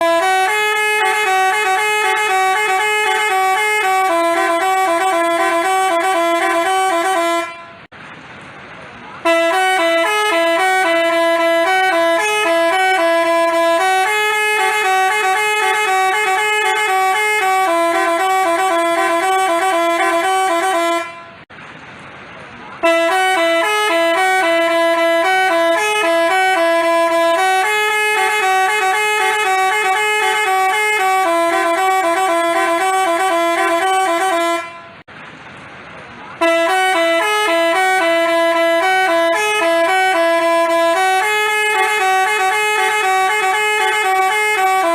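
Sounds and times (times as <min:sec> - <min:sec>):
multi-tone bus horn jingle: 0:00.0 - 0:07.9, 0:09.2 - 0:21.5, 0:22.8 - 0:35.1, 0:36.4 - 0:44.9.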